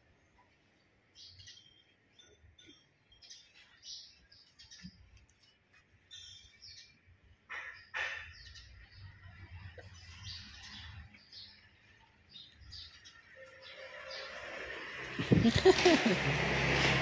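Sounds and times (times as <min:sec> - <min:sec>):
small birds chirping faintly: 0:00.0 - 0:15.5.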